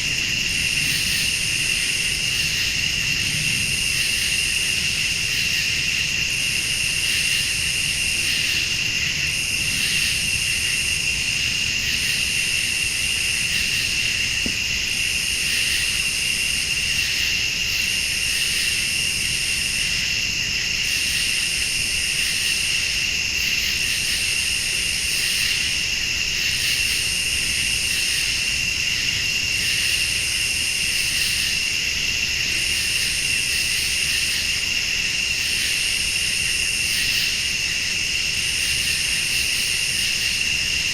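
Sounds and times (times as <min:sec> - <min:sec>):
crickets trilling: 0:00.0 - 0:40.9
pulsing insect call: 0:00.0 - 0:40.9.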